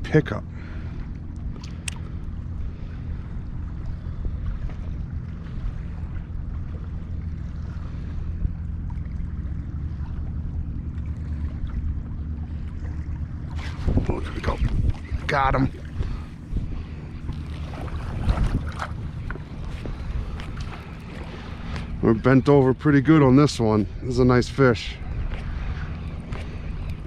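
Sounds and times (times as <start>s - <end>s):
water lapping against kayak: 0.2s - 27.0s
wind buffeting microphone: 0.8s - 27.0s.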